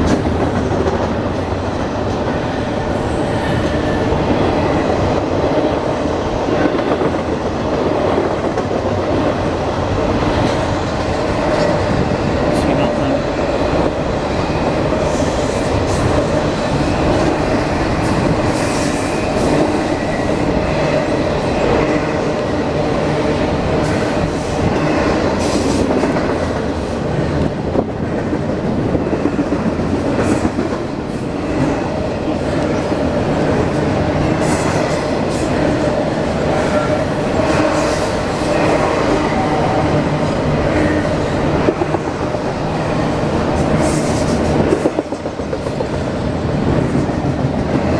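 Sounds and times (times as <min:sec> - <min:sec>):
steel wheels rumbling on rail: 0:00.0 - 0:47.9.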